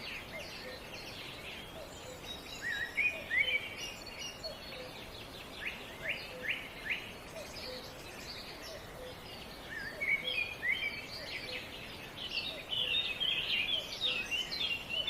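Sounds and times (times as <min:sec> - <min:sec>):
outdoor noise: 0:00.0 - 0:15.0
songbirds chirping: 0:00.0 - 0:15.0.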